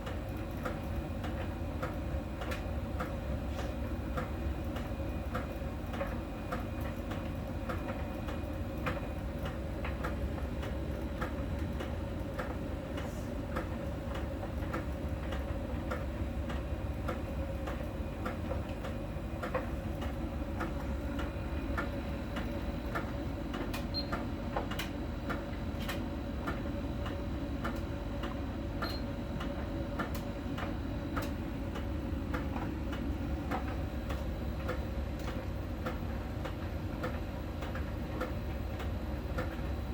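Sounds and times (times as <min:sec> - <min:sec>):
light ticks of dryer sensor: 0:00.0 - 0:39.9
tumble dryer drum rumble: 0:00.0 - 0:39.9.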